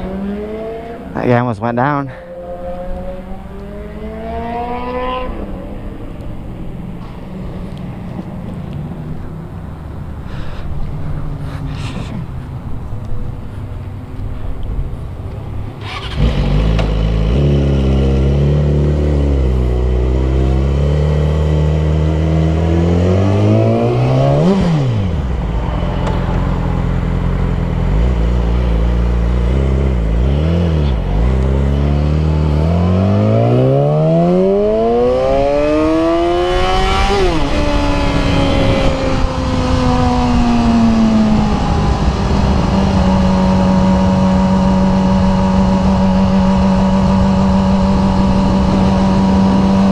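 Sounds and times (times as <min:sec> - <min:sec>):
motorcycle engine accelerating: 0:00.0 - 0:01.3, 0:02.3 - 0:07.3, 0:15.4 - 0:49.9.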